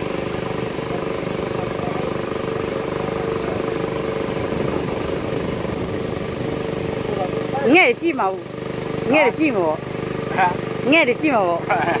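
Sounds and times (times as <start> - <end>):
boat engine running steadily: 0.0 - 12.0.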